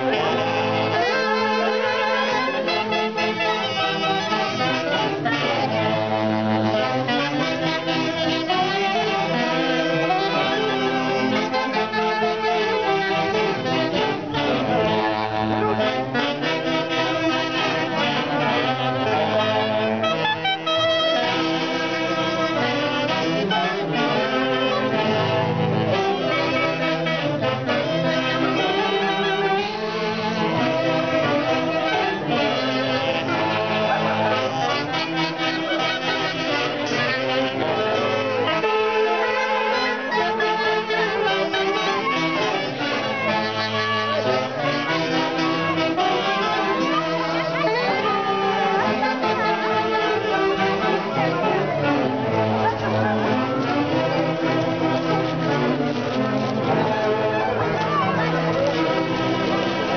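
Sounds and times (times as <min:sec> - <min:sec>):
saxophone band playing dance tune: 0:00.0 - 0:59.9.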